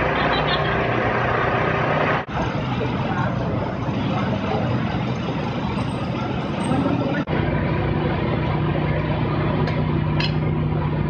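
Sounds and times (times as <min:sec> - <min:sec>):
engine humming: 0:00.0 - 0:11.0
outdoor noise: 0:00.0 - 0:11.0.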